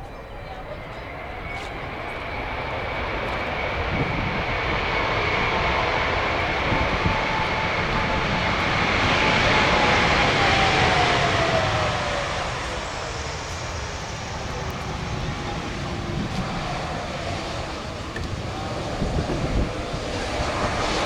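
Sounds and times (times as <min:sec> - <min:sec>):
jet airliner passing by: 0:00.0 - 0:21.0
jet engine whine: 0:00.0 - 0:21.0.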